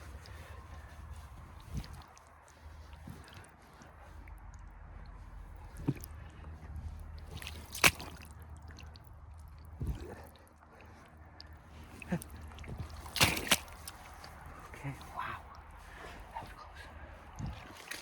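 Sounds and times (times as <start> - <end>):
low steady rumble: 0.0 - 18.0
rubber boots squelching in mud: 0.0 - 18.0.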